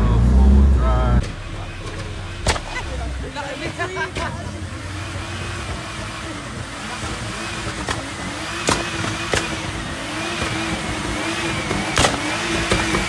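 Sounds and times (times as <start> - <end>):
car engine at high revs: 0.0 - 13.0
sharp exhaust bangs: 0.0 - 13.0.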